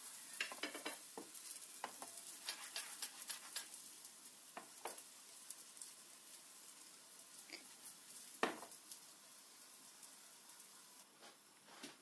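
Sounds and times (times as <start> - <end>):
crepe sizzling in hot oil: 0.0 - 12.0.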